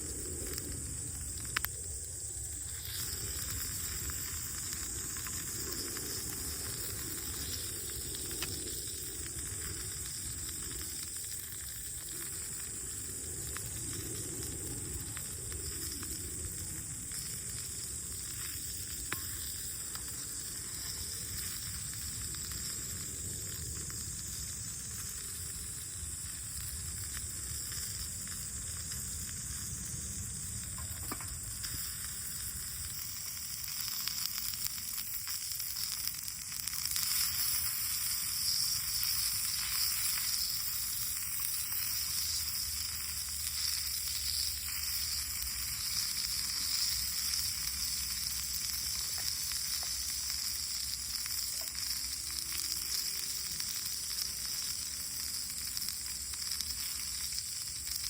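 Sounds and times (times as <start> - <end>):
fire crackles: 0.0 - 58.0
food sizzling in a pan: 0.0 - 58.0.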